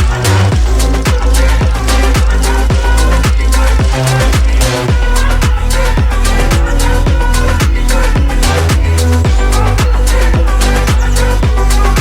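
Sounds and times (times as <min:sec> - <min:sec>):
deep kick drum: 0:00.0 - 0:12.0
electronic dance music: 0:00.0 - 0:12.0
sustained synth tones: 0:00.0 - 0:12.0.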